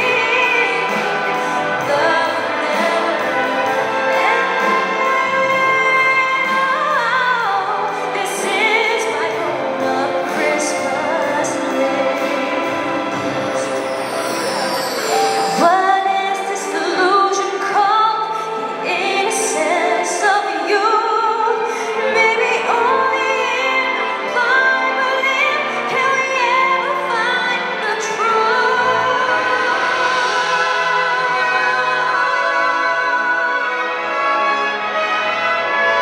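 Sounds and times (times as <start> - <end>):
woman singing: 0.0 - 13.8, 15.1 - 34.5
symphony orchestra playing: 0.0 - 36.0.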